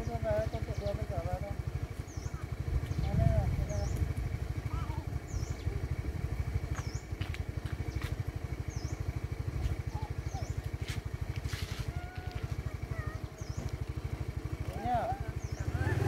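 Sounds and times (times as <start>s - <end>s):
scooter engine idling: 0.0s - 16.0s.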